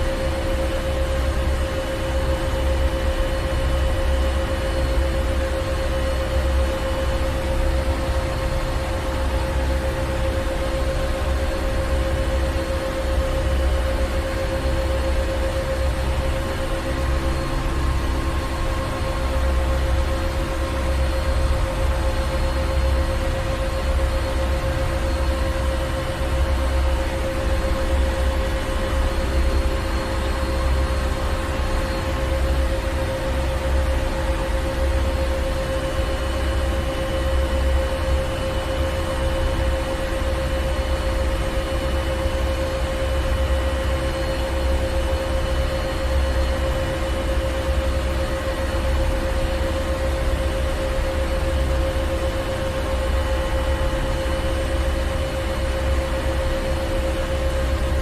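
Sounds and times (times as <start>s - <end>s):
constant mid-pitched hum: 0.0s - 58.0s.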